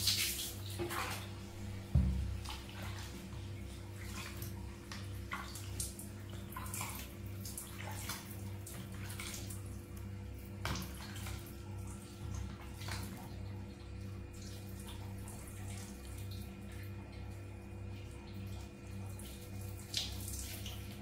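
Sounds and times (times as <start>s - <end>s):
water splashing and dripping: 0.0s - 21.0s
steady low hum: 0.1s - 21.0s.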